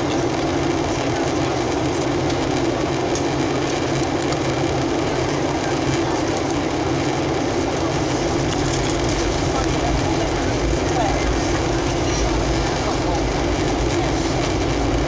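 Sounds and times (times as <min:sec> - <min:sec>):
jet engine drone: 0:00.0 - 0:15.0.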